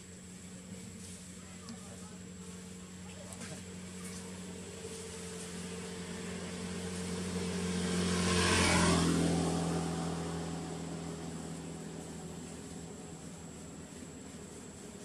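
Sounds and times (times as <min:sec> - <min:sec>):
motor vehicle engine passing: 0:00.0 - 0:15.0.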